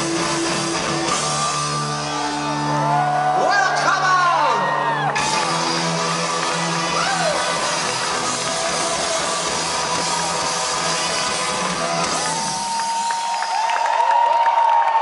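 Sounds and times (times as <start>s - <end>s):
live rock band playing: 0.0s - 13.5s
crowd cheering and whooping: 0.0s - 15.0s.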